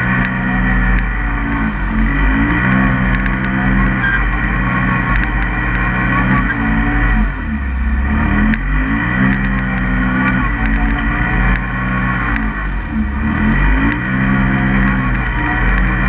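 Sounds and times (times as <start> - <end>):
engine revving hard: 0.0 - 16.0.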